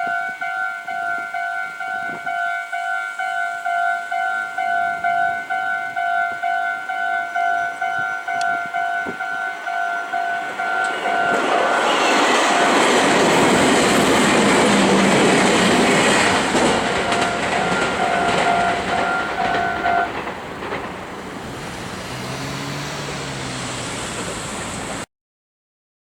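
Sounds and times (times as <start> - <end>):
pulsing steady tones: 0.0 - 25.0
train wheels clattering on rails: 0.0 - 25.0.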